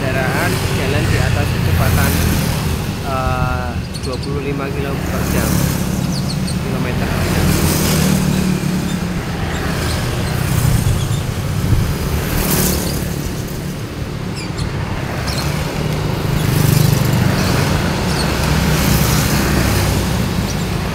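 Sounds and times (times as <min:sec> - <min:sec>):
motorcycles and scooters passing: 0:00.0 - 0:20.9
steady engine hum: 0:00.0 - 0:20.9.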